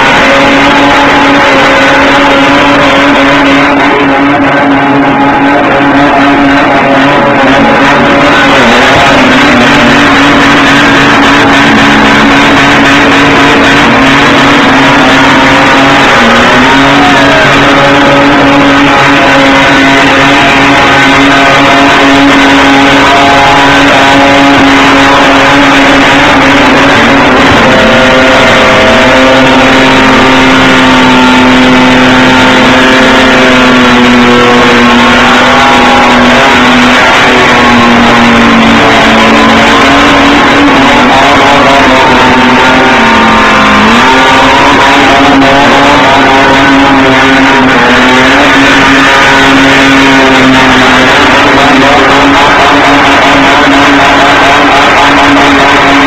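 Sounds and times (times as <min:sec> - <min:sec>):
car engines at high revs: 0:00.0 - 0:56.0.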